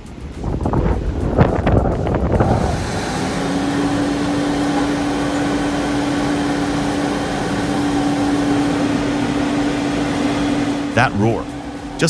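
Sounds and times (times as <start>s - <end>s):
constant whine: 0.0s - 12.0s
diesel engine at high revs: 1.2s - 12.0s.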